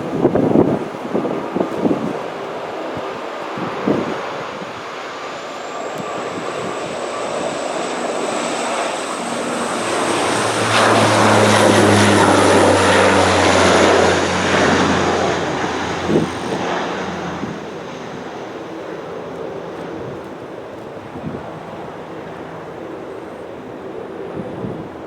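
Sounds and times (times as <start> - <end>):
turboprop airliner passing by: 0.0 - 25.0.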